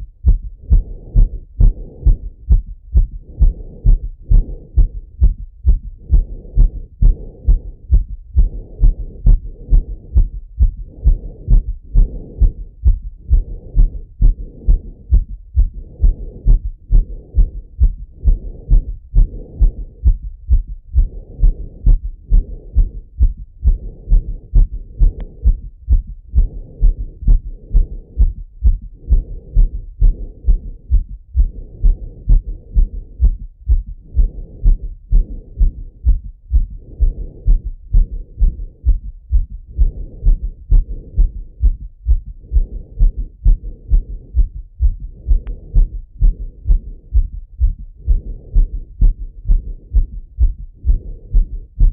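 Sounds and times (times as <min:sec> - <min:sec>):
heartbeat thuds: 0:00.0 - 0:51.9.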